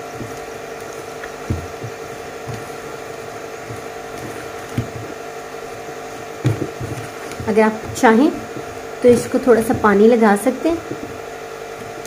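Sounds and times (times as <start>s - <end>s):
spatula mixing in glass bowl: 0.0s - 12.0s
steady hum: 0.0s - 12.0s.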